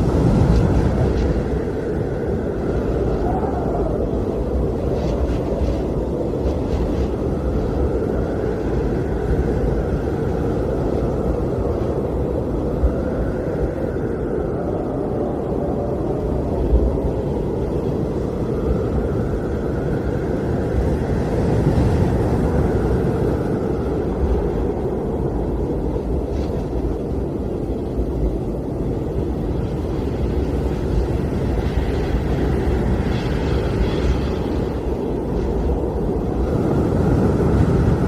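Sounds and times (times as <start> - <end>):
blizzard wind whistling: 0.0 - 38.0.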